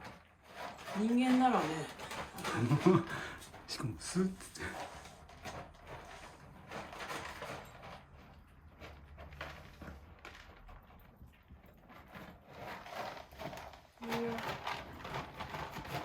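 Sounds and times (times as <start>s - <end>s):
kittens scratching and rustling: 0.0s - 16.0s.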